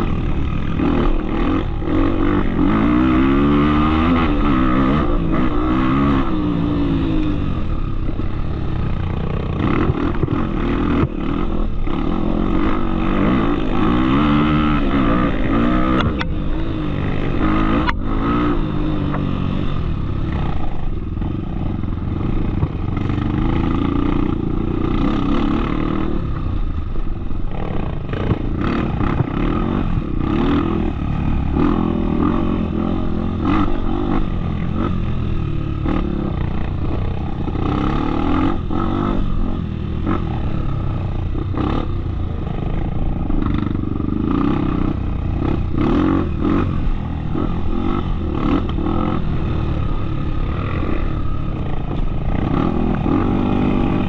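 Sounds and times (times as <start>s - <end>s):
off-road motorcycle engine: 0.0s - 54.0s.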